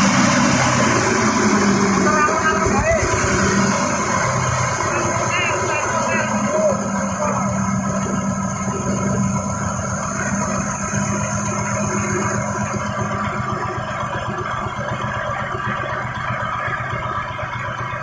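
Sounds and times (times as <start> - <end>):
grinding machine motor hum: 0.0 - 18.0
rough mechanical rattle: 0.0 - 18.0.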